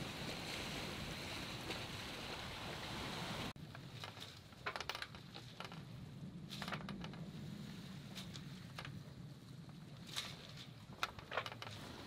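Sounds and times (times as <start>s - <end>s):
water and wind rushing: 0.0s - 12.0s.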